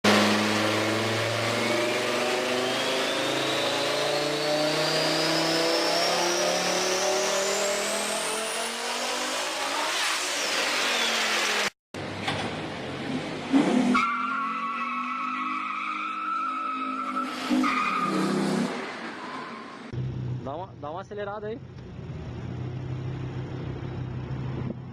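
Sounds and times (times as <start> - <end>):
car engine and exhaust revving: 0.0 - 20.5, 21.6 - 24.9.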